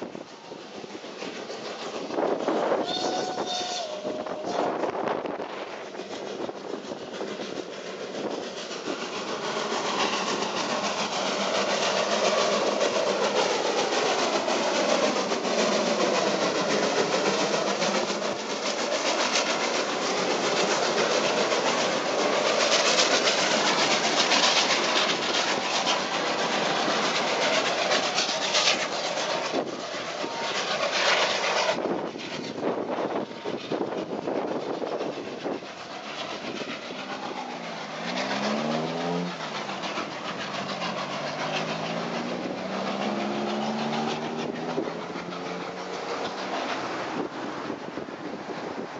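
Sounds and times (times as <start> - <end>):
steam train passing: 0.0 - 48.9.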